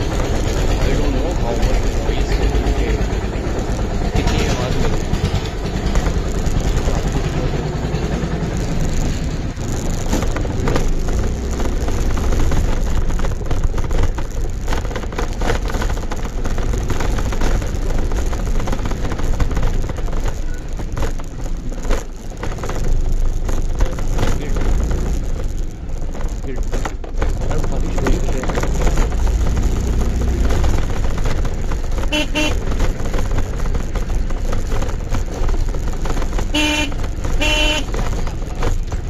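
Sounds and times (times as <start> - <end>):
small scooter engine running: 0.0 - 39.0
wind and road noise rumble: 0.0 - 39.0.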